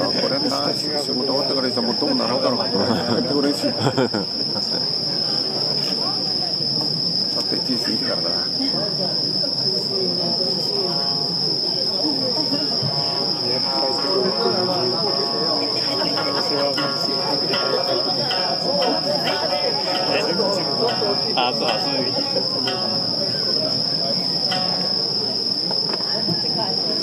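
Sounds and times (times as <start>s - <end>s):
crickets chirring: 0.0s - 27.0s
murmur of many people talking: 0.0s - 27.0s.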